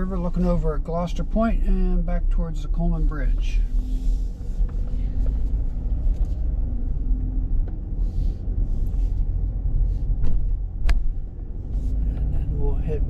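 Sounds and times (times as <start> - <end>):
car driving slowly: 0.0 - 13.0.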